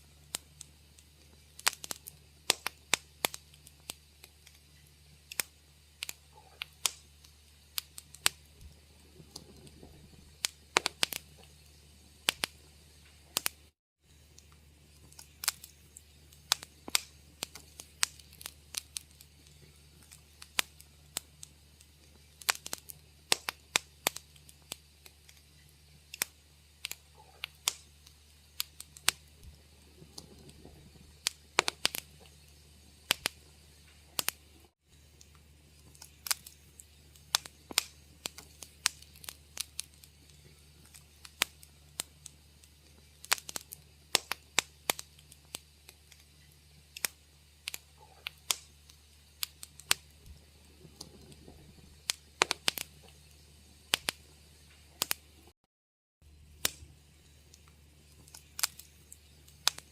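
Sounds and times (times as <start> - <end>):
faint low hum: 0.0 - 55.5
wood fire crackling: 0.0 - 55.6, 56.2 - 59.9.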